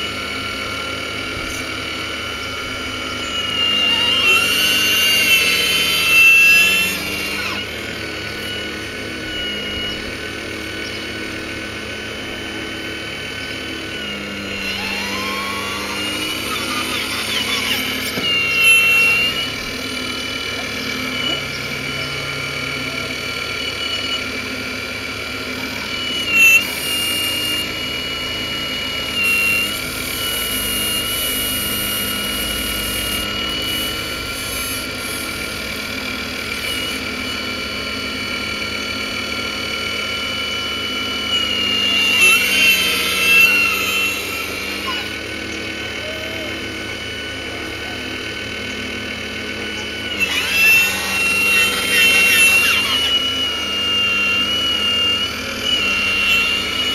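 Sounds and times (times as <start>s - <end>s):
hydraulic pump whining: 0.0s - 56.9s.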